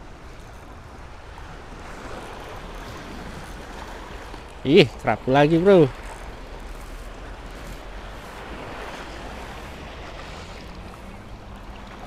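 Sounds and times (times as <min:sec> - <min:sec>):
wind on microphone: 0:00.0 - 0:05.2, 0:05.9 - 0:12.0
sea water sloshing against rocks: 0:00.0 - 0:12.0.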